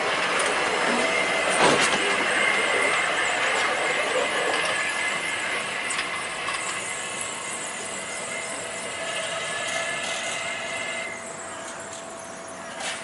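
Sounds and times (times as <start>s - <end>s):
tram whine: 0.0s - 13.0s.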